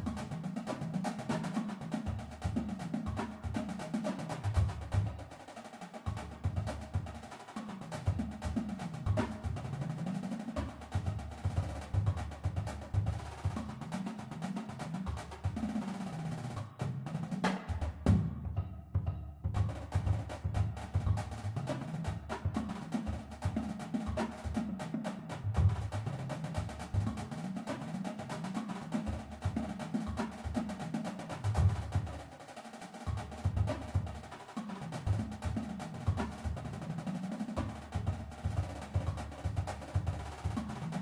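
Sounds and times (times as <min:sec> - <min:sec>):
marching drums playing rapid rolls: 0:00.0 - 0:18.5, 0:19.5 - 0:41.0
low drum tones: 0:06.1 - 0:07.2, 0:07.8 - 0:32.3, 0:33.1 - 0:34.3, 0:34.9 - 0:41.0.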